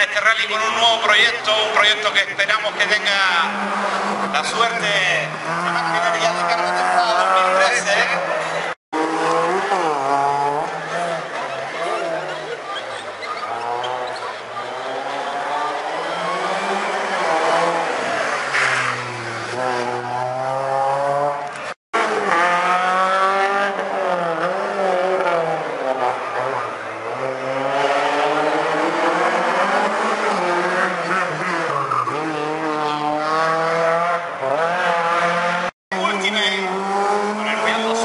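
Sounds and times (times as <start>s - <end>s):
rally car engine revving: 0.2s - 38.0s.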